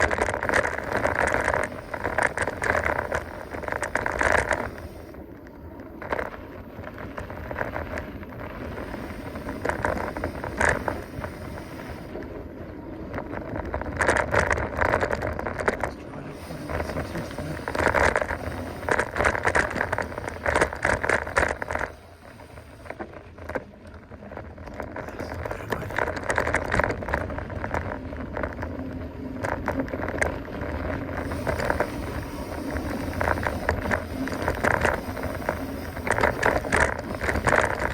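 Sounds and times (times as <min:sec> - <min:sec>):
bike rattling clicks: 0:00.0 - 0:12.3, 0:13.0 - 0:37.9
bike tyres on dirt trail: 0:00.0 - 0:37.9.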